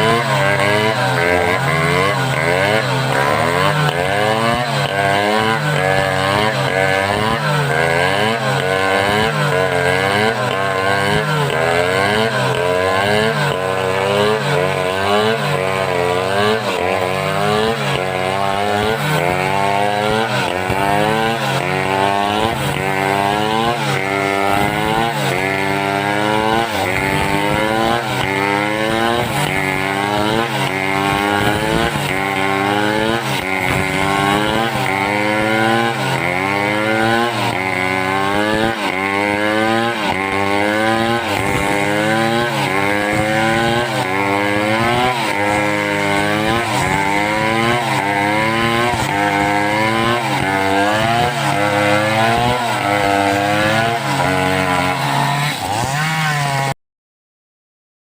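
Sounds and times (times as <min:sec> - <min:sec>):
chainsaw cutting wood: 0:00.0 - 0:56.8.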